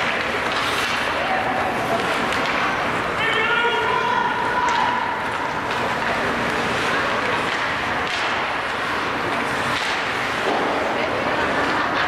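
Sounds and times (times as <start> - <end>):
hockey sticks and puck clacking: 0.0 - 12.0
skates scraping ice: 0.0 - 12.0
spectators' voices: 0.0 - 12.0.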